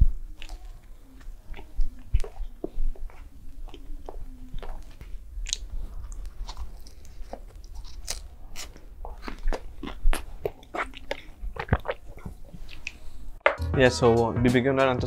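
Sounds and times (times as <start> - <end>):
crunchy food chewing: 0.1 - 13.2.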